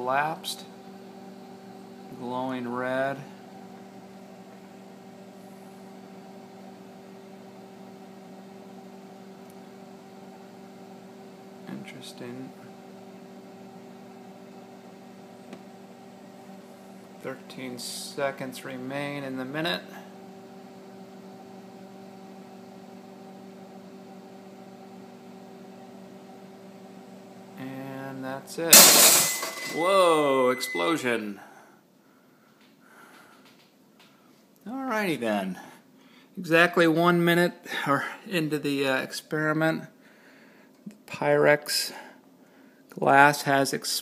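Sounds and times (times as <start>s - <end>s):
microwave oven humming: 0.0s - 44.0s.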